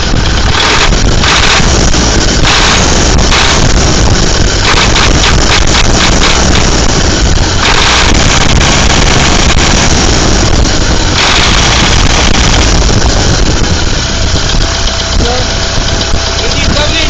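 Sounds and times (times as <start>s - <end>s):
car engine running: 0.0s - 17.0s
engine knock: 0.0s - 17.0s.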